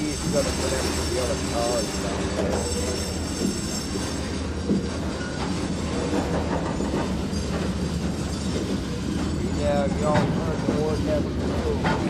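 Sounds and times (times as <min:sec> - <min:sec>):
locomotive engine rumble: 0:00.0 - 0:12.0
wheels clicking on rails: 0:00.0 - 0:12.0.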